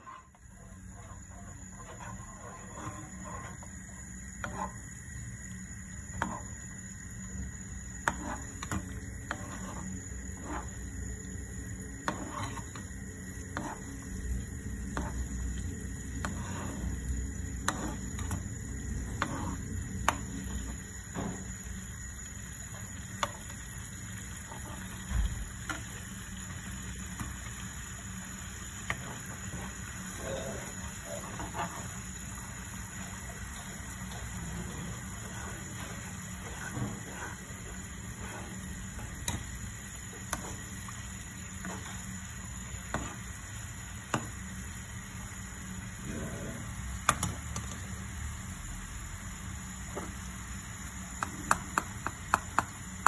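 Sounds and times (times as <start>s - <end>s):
steady low hum: 0.0s - 52.7s.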